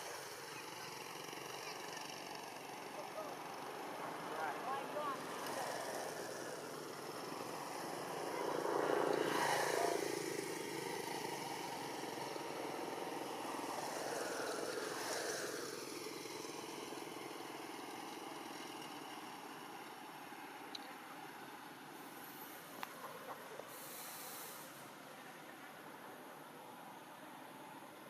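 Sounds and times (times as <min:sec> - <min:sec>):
outdoor background noise: 0:00.0 - 0:28.0
vehicles passing: 0:00.0 - 0:28.0.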